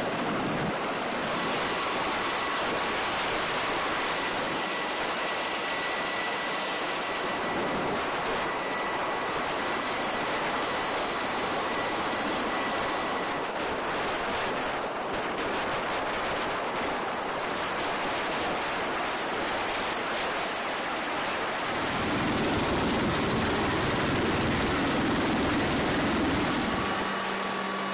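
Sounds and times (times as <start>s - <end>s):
aircraft engines rushing: 0.0s - 27.9s
thin high whine: 0.0s - 27.9s.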